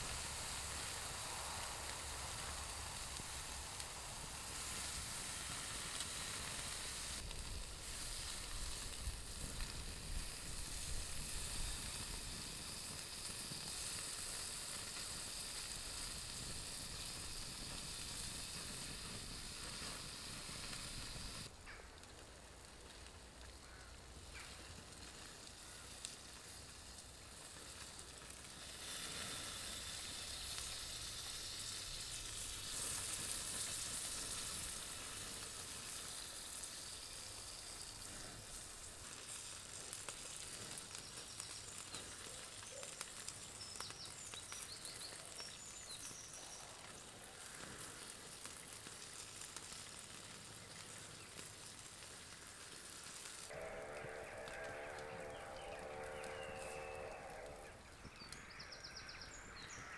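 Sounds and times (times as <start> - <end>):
bacon sizzling in a pan: 0.0 - 21.5, 22.6 - 58.6.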